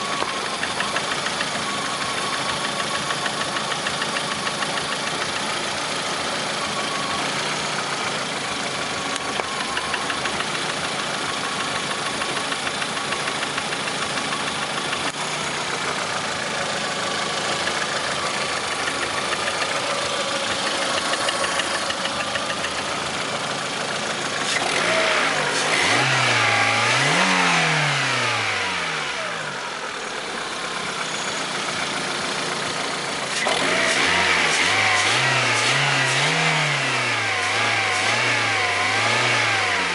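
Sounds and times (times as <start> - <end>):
car engine idling with knock: 0.0 - 39.8
engine revving: 0.0 - 39.9.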